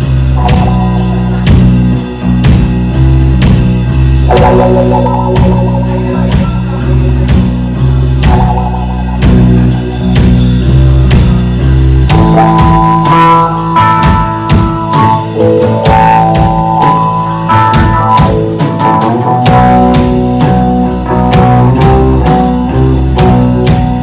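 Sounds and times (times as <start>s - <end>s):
drum kit beat: 0.0s - 24.0s
electric guitar phrases: 0.0s - 24.0s
rock band playing: 0.0s - 24.0s.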